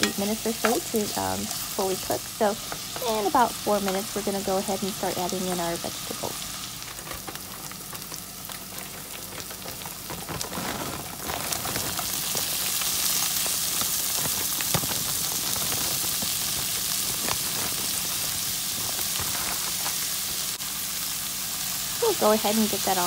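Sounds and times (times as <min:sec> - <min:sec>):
chicken sizzling in frying pan: 0:00.0 - 0:23.0.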